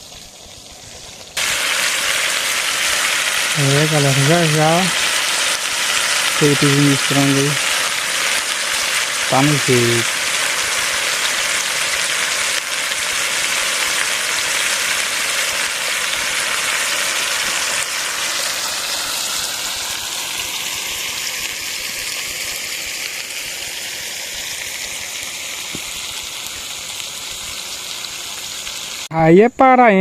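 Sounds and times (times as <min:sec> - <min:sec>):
chicken sizzling in hot oil: 0:00.0 - 0:29.1.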